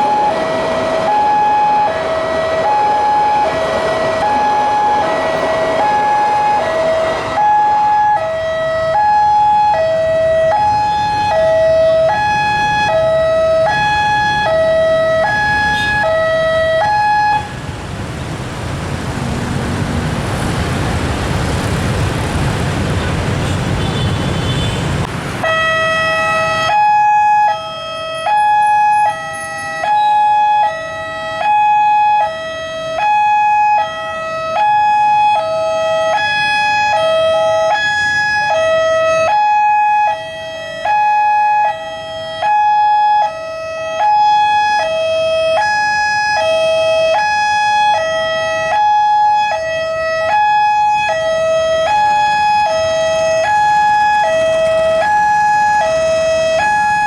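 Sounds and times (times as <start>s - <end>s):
two-tone crossing alarm: 0.0s - 17.8s, 25.4s - 57.0s
road traffic: 0.0s - 57.0s.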